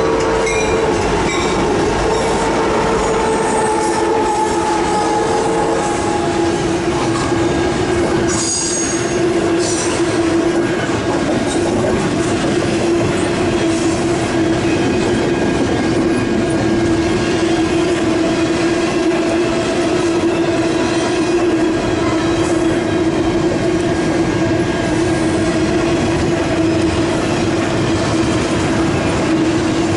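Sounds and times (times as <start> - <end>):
train rumbling past: 0.0 - 29.9
wheels squealing on rails: 0.0 - 29.9.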